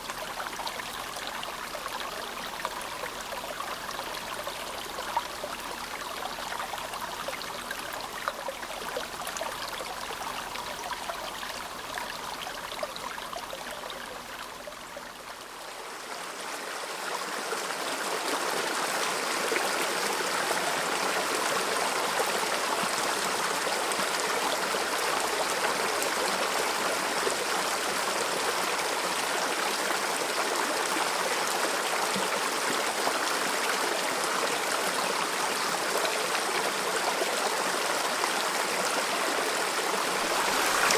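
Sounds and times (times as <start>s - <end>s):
river running over stones: 0.0s - 40.9s.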